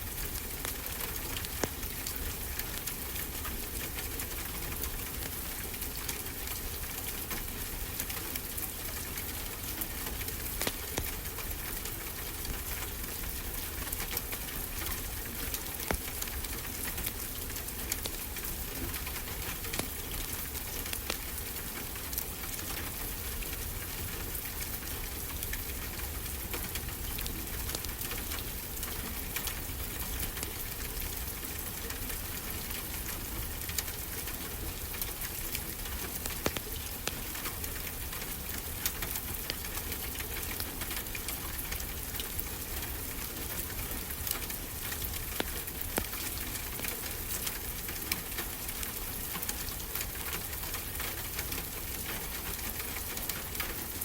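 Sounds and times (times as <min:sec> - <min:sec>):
wood fire crackling: 0:00.1 - 0:04.2, 0:08.4 - 0:14.9, 0:15.5 - 0:32.4, 0:33.0 - 0:52.0.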